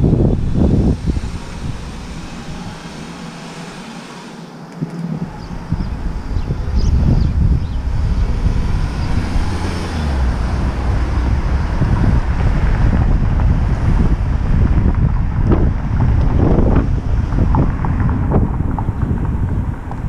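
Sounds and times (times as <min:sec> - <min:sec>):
wind buffeting microphone: 0:00.0 - 0:04.1, 0:04.8 - 0:20.0.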